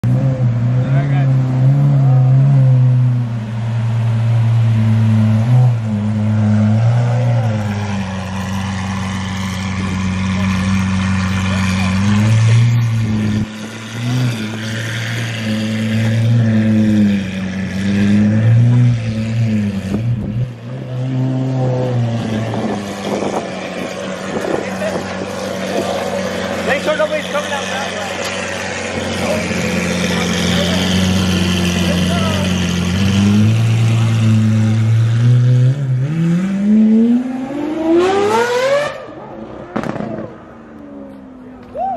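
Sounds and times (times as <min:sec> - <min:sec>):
sports car accelerating hard: 0:00.0 - 0:41.5.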